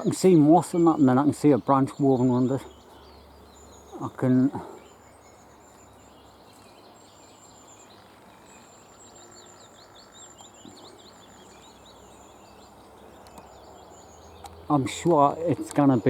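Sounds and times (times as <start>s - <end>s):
bird chirping: 0.0s - 16.0s
faint birdsong: 0.0s - 16.0s.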